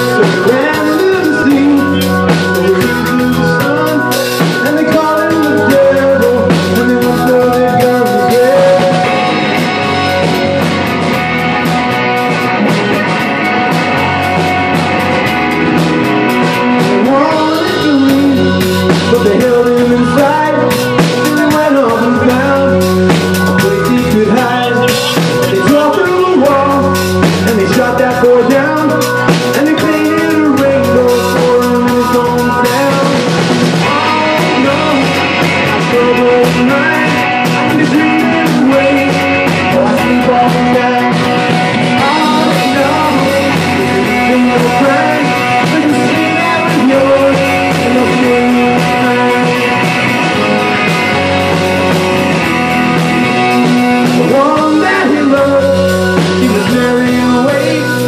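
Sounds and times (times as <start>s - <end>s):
bass guitar: 0.0s - 58.0s
drum kit with cymbals: 0.0s - 58.0s
electric guitar: 0.0s - 58.0s
keyboard: 0.0s - 58.0s
man singing: 0.0s - 58.0s.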